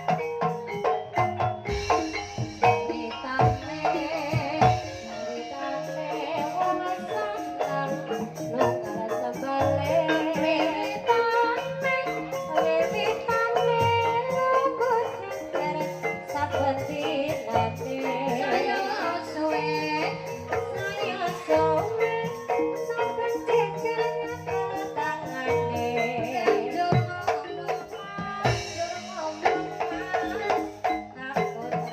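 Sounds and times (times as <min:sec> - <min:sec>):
pitched percussion and drums: 0:00.0 - 0:31.9
woman singing ornamented lines: 0:01.5 - 0:31.9.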